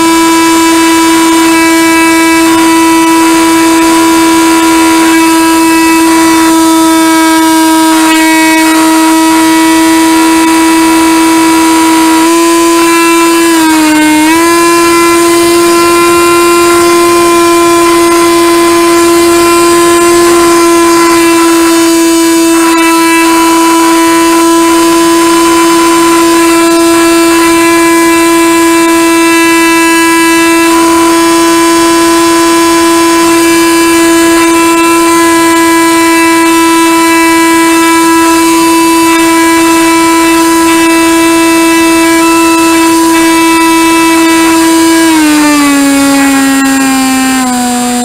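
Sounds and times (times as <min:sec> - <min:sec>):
model airplane motor whine: 0:00.0 - 0:48.0.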